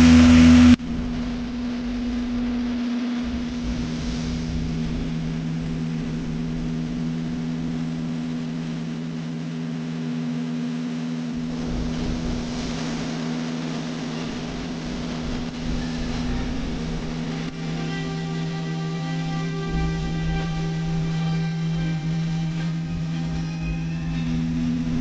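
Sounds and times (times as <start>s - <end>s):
diesel paving machinery running: 0.0s - 9.0s, 13.8s - 25.0s.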